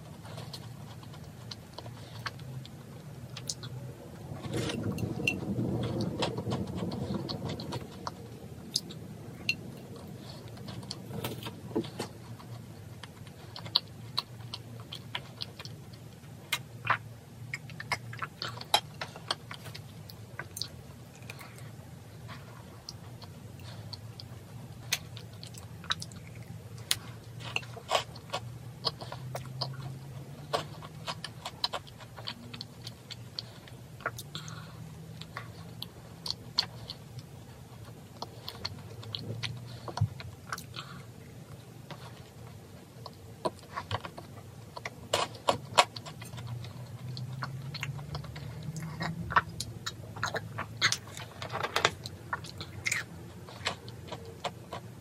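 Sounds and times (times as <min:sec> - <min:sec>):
macaron crunching while chewed: 0:00.0 - 0:55.0.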